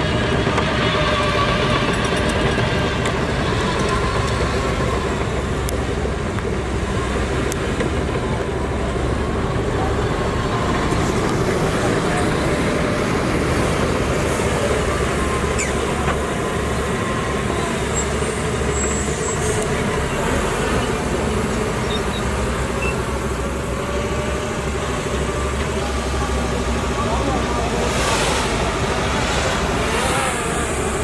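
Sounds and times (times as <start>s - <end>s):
heavy machinery engine drone: 0.0s - 31.0s.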